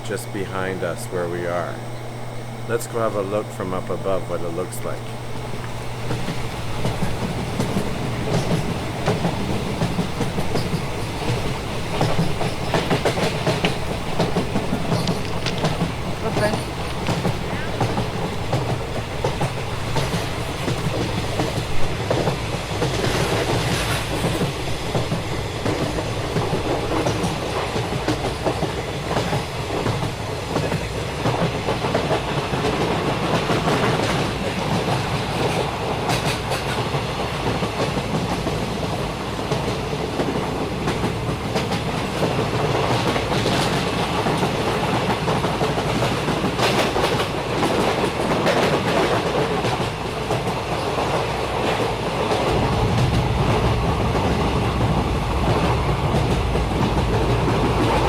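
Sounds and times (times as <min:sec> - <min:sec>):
train rumbling on rails: 0:00.0 - 0:58.0
wheels clicking over rail joints: 0:00.0 - 0:58.0.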